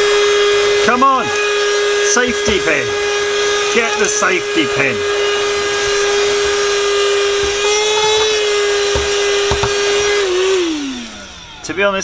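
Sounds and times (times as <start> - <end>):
handheld vacuum motor whine: 0.0 - 12.0.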